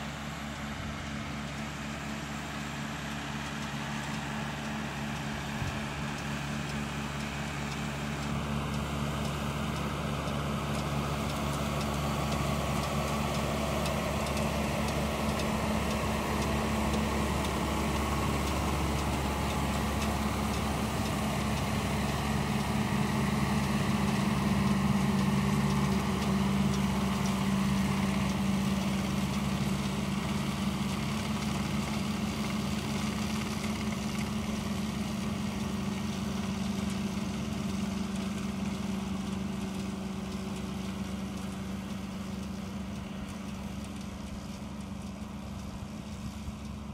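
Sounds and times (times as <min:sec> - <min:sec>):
round baler running: 0:00.0 - 0:46.9
tractor diesel engine under load: 0:00.0 - 0:46.9.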